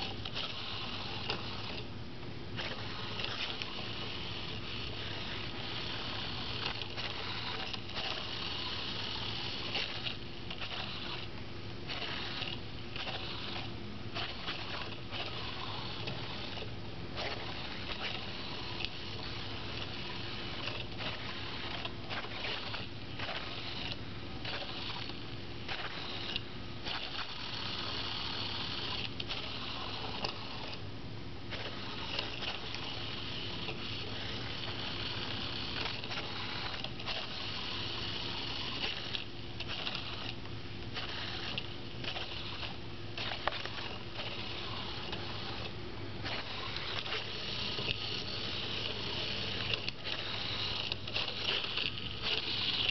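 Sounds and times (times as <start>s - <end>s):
small robot motors whining: 0.0s - 1.9s, 2.6s - 30.8s, 31.5s - 52.9s.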